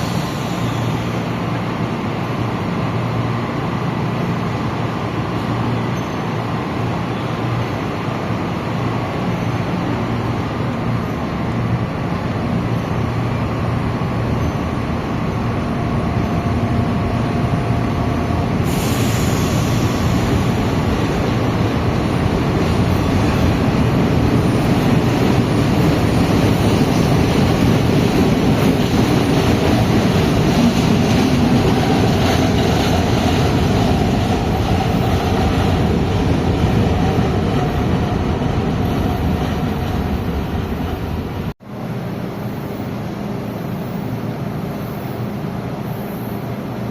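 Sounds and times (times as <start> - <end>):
metro train running on rails: 0.0 - 46.9.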